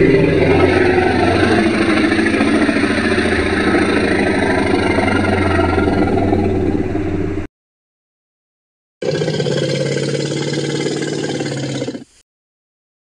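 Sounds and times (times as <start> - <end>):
monster growl with rattle: 0.0 - 7.4, 9.0 - 12.2.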